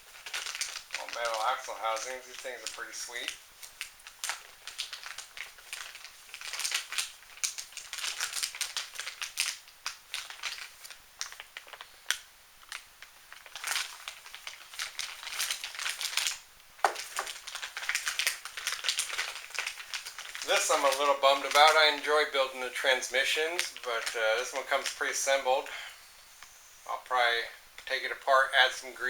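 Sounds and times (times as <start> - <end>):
plastic packaging crinkling: 0.0 - 26.6.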